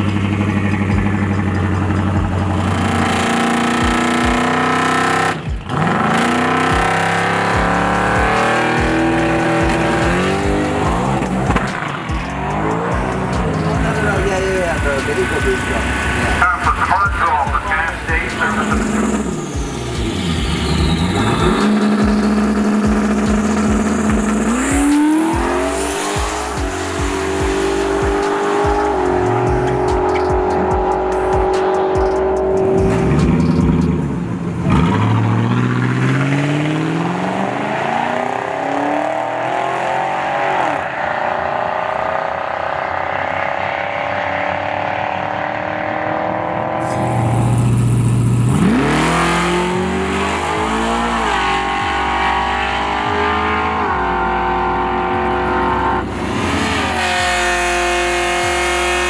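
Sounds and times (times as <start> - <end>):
cars revving and accelerating: 0.0 - 59.0.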